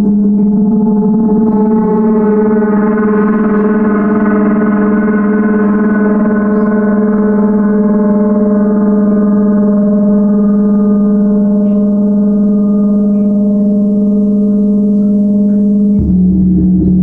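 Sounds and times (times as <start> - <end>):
gong humming: 0.0 - 17.0.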